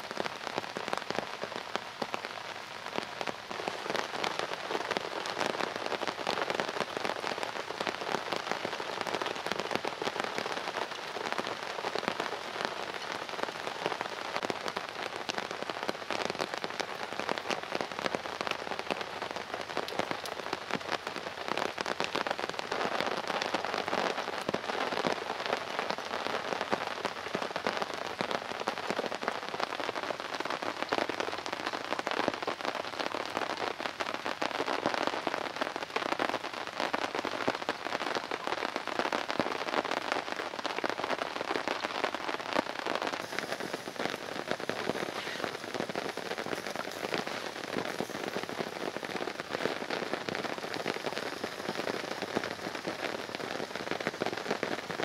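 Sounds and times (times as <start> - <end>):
heavy rain on a tarp: 0.0 - 55.0.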